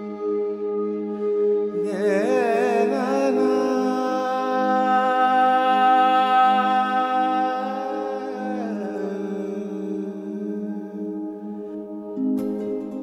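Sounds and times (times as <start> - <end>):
steady drone: 0.0 - 12.2
long held synth note: 0.0 - 13.0.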